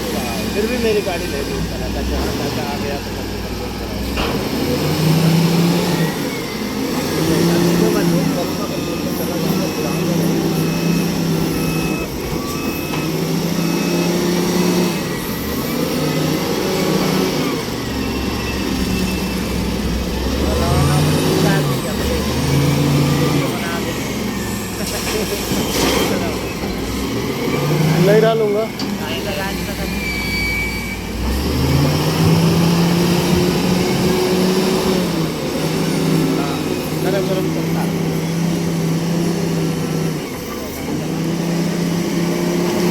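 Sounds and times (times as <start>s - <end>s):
truck diesel engine running: 0.0s - 42.9s.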